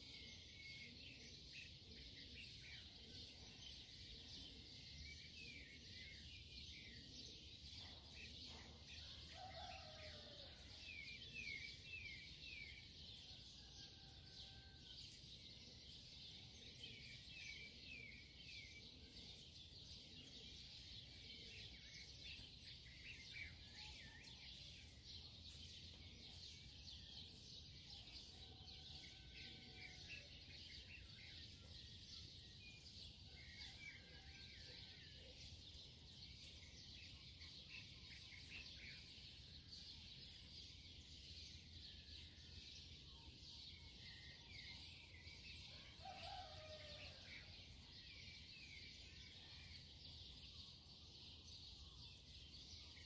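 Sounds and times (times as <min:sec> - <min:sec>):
faint birds chirping: 0:00.0 - 0:53.0.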